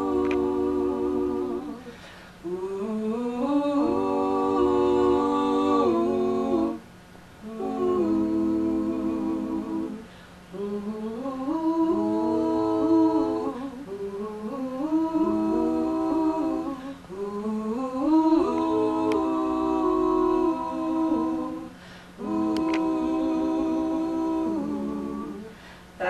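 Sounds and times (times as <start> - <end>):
women singing harmony a cappella: 0.0 - 26.0.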